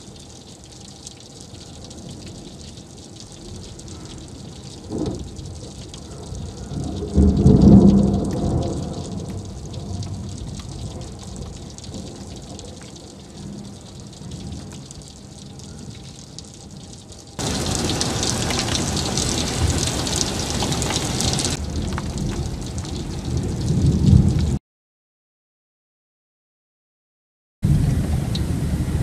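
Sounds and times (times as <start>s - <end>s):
heavy rain hissing: 0.0s - 24.6s
thunder rumbling: 1.4s - 24.6s, 27.6s - 29.0s.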